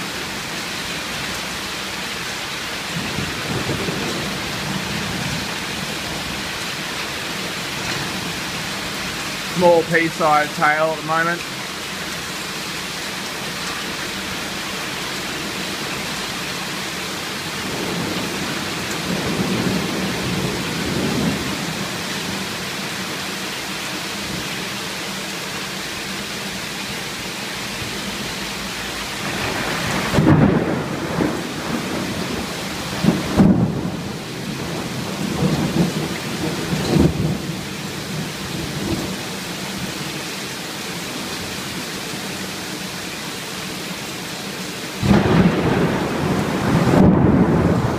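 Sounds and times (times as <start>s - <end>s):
heavy rain and hail: 0.0s - 47.9s.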